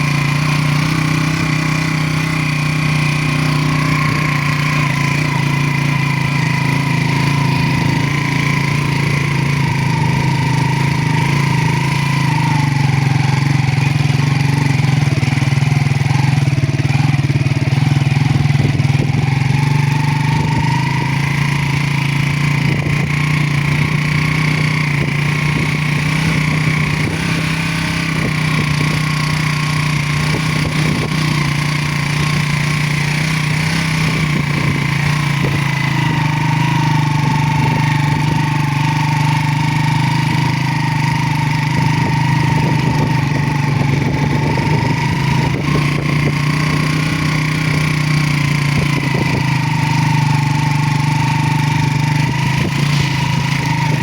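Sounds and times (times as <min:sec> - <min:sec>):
engine whine: 0:00.0 - 0:54.0
motorcycle engine running: 0:00.0 - 0:54.0.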